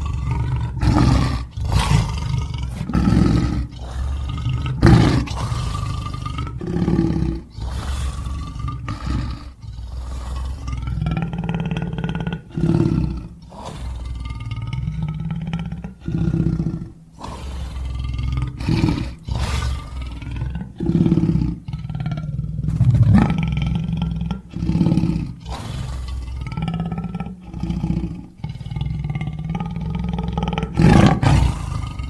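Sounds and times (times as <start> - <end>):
lion roaring and growling: 0.0 - 32.0.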